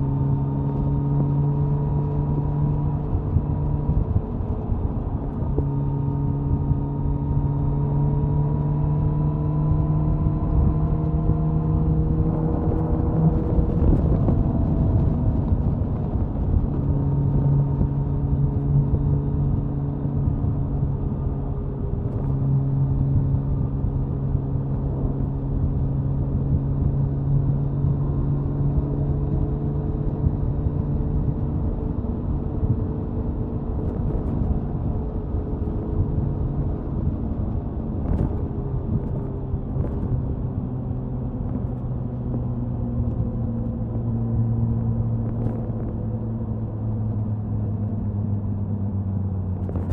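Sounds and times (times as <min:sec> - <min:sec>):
rushing wind noise: 0:00.0 - 0:49.9.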